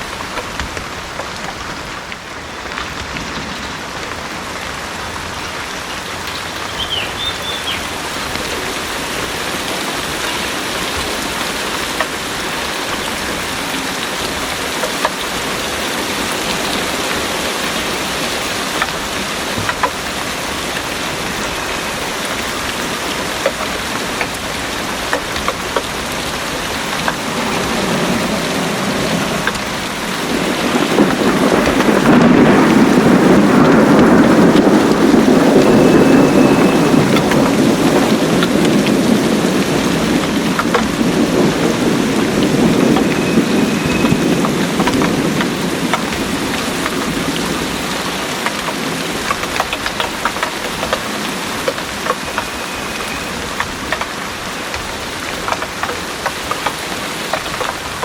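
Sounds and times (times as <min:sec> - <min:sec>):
heavy rain pouring: 0:00.0 - 0:58.0
rolling thunder rumble: 0:00.0 - 0:58.0.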